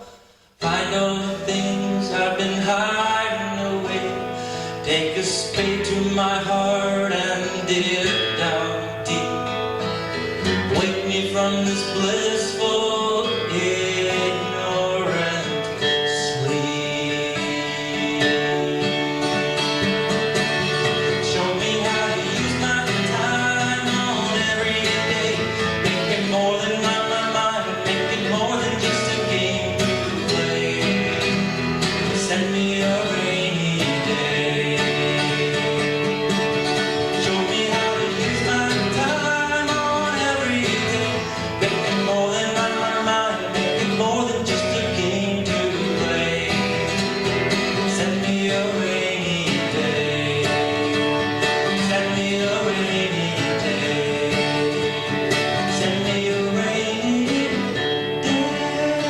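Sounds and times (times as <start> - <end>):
acoustic guitar folk music: 0.0 - 59.0.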